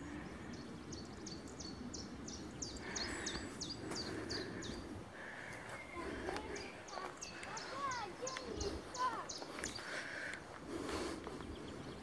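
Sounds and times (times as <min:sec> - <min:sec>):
low outdoor rustle: 0:00.0 - 0:12.0
songbird singing: 0:00.0 - 0:12.0.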